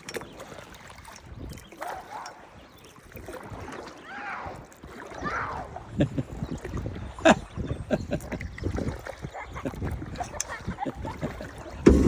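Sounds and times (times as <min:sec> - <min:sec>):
water gurgling around kayak: 0:00.0 - 0:12.0.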